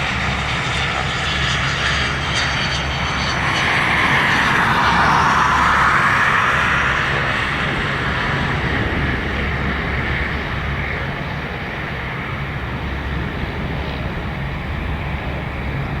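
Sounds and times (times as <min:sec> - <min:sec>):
jet engines hissing and rumbling: 0:00.0 - 0:16.0.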